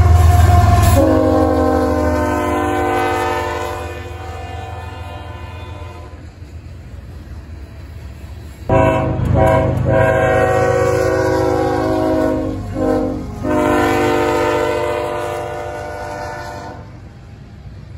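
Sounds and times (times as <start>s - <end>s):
locomotive air horn: 0.0s - 6.3s, 8.7s - 17.0s
passing train rumble: 0.0s - 17.9s.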